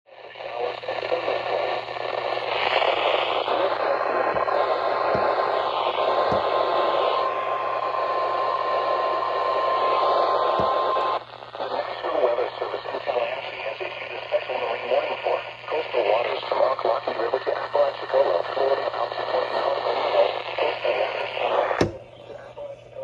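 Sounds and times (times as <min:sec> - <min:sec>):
radio static hiss: 0:00.1 - 0:23.0.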